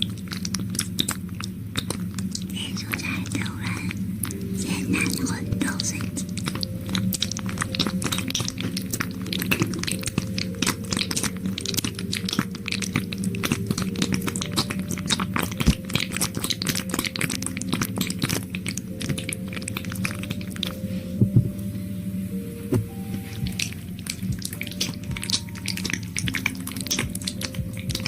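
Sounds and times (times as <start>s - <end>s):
wet mouth clicking and smacking: 0.0s - 20.8s, 23.4s - 28.0s
faint low hum: 0.0s - 28.0s.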